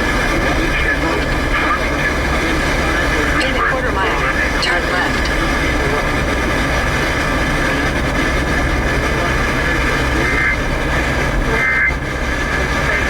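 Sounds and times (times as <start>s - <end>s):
radio static hiss: 0.0s - 13.0s
road rumble: 0.0s - 13.0s.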